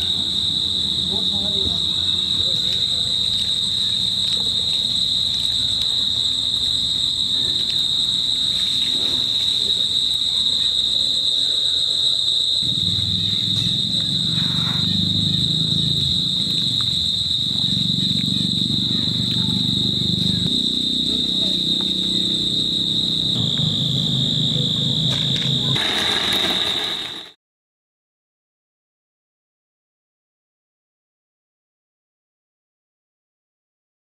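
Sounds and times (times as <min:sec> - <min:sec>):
insect chorus drone: 0:00.0 - 0:27.4.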